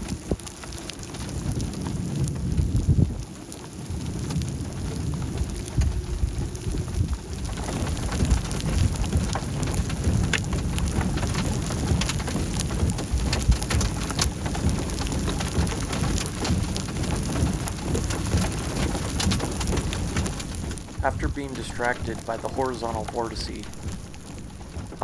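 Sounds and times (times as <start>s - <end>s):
rain falling: 0.0s - 25.0s
low rumble: 3.9s - 25.0s.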